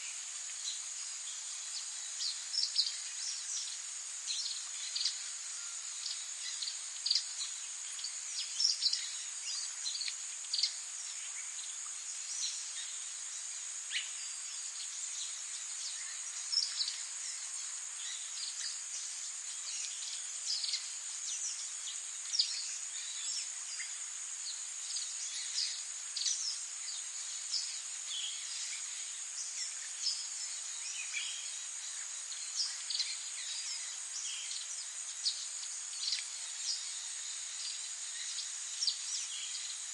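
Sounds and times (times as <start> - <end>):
high-pitched insect trill: 0.0 - 39.9
songbirds chirping: 0.0 - 39.9.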